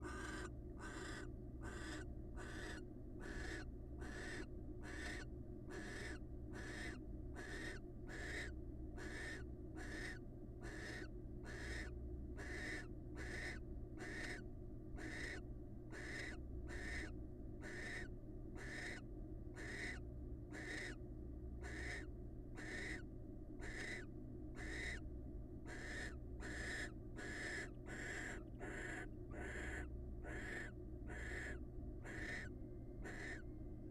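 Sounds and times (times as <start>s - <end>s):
owl hissing calls: 0.0s - 14.4s, 15.0s - 19.0s, 19.6s - 21.0s, 21.6s - 25.0s, 25.7s - 33.4s
steady low hum: 0.0s - 33.9s.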